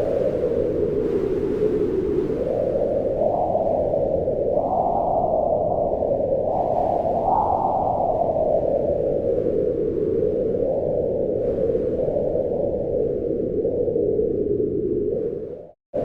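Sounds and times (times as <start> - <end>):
strong wind gusting: 0.0 - 16.0.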